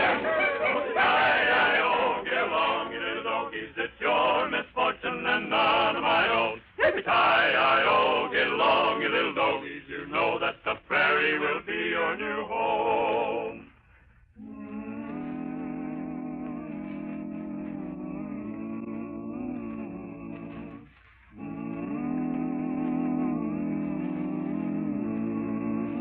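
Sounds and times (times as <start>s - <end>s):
men singing: 0.0s - 13.7s, 14.4s - 26.0s.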